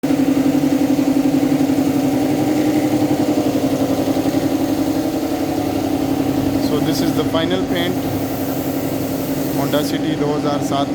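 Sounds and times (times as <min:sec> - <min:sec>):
machine humming with fast pulse: 0:00.0 - 0:10.2.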